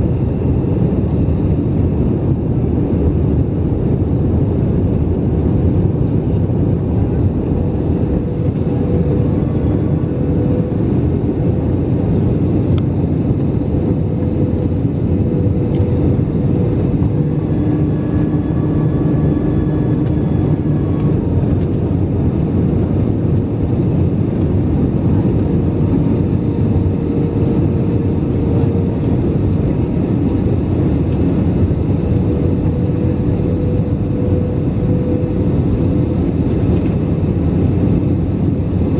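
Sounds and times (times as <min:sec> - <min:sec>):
aircraft cabin engine rumble: 0:00.0 - 0:38.9
steady hum: 0:00.0 - 0:38.9.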